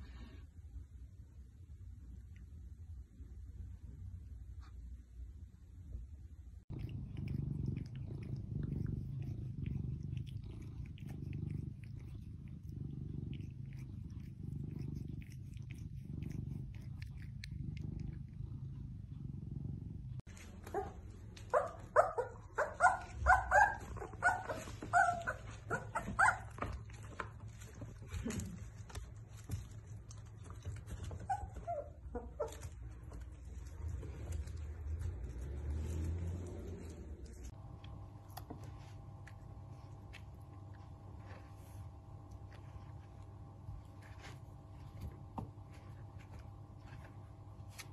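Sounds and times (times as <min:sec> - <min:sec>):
cat purring: 0:06.6 - 0:47.9.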